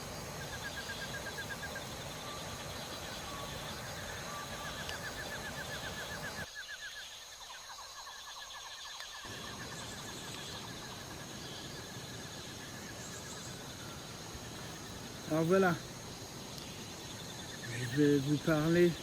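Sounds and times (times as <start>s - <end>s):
birds trilling: 0.0s - 19.0s
steady background hiss: 0.0s - 19.0s.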